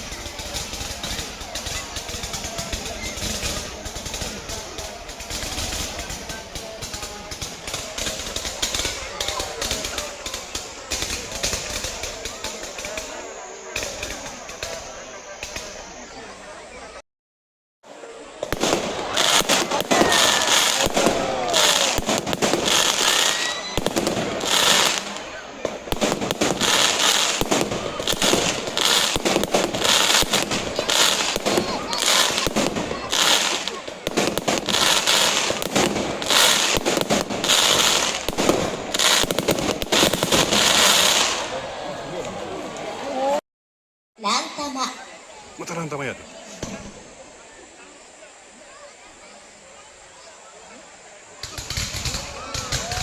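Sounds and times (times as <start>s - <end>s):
fireworks bangs and crackling: 0.0s - 17.0s, 17.9s - 43.0s, 45.6s - 47.4s, 51.4s - 53.0s.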